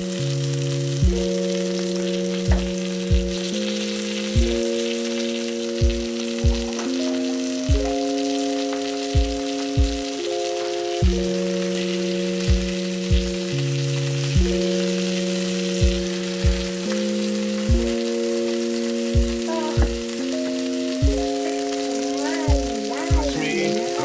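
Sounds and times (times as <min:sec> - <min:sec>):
food sizzling in a frying pan: 0:00.0 - 0:24.0
synth music with kick drum: 0:00.0 - 0:24.0.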